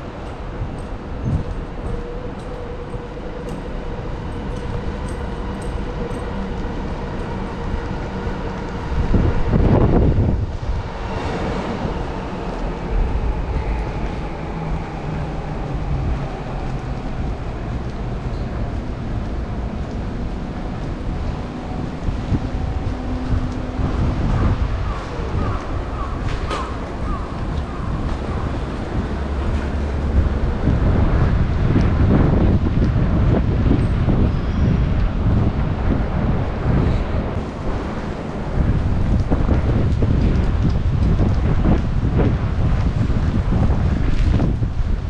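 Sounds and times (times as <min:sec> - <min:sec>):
city street rumble: 0:00.0 - 0:45.0.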